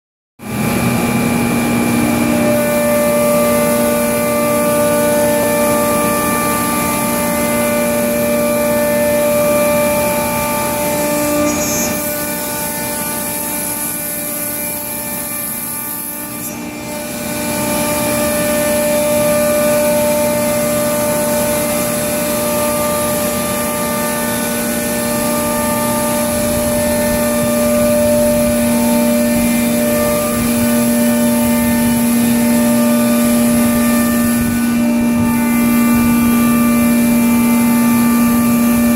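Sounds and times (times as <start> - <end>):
cnc router spindle whine: 0.4 - 38.9.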